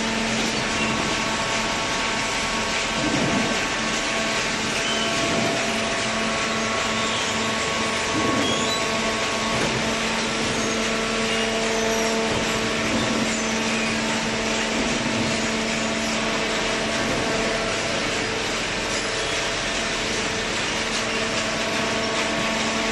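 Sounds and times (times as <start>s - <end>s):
baler machine running: 0.0s - 22.9s.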